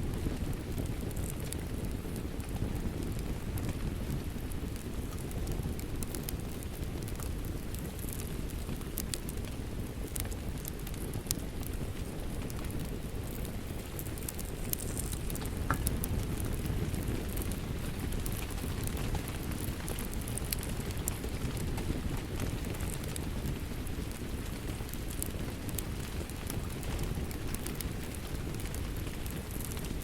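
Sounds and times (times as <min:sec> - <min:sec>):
low rumble of rain: 0:00.0 - 0:30.0
wood fire crackling and popping: 0:00.0 - 0:30.0.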